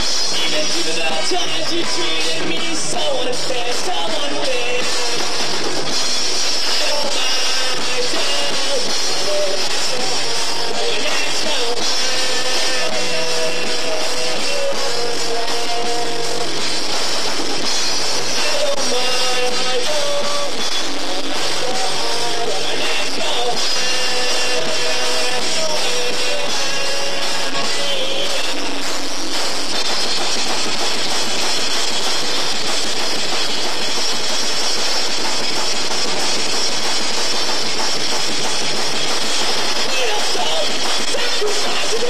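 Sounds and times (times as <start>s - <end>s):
drum kit: 0.0s - 42.0s
electric guitar: 0.0s - 42.0s.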